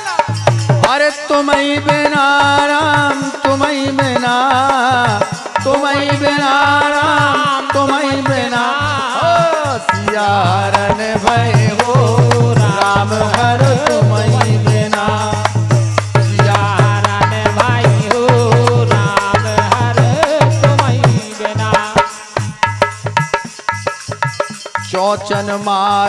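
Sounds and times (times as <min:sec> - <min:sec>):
drum beat: 0:00.0 - 0:26.0.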